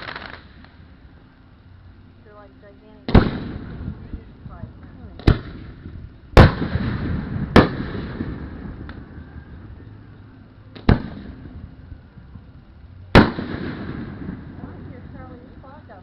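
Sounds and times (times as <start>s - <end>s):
fireworks booming: 0.0s - 0.8s, 3.0s - 9.8s, 10.7s - 16.0s.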